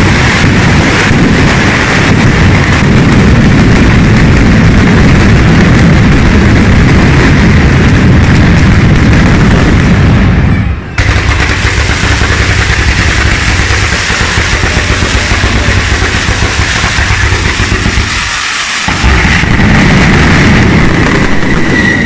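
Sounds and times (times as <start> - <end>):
firecrackers crackling: 0.0 - 22.0.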